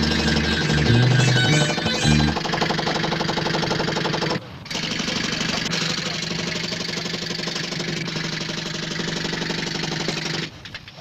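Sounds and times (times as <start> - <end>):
air compressor engine: 0.0 - 10.5
jackhammer hammering: 0.0 - 10.6.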